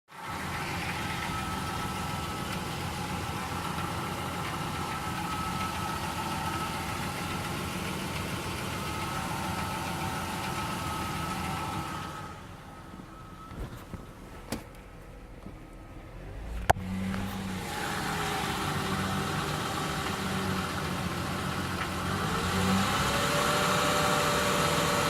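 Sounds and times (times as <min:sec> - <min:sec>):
engine idling: 0:00.1 - 0:25.0
engine knocking: 0:00.2 - 0:12.5, 0:16.5 - 0:25.0.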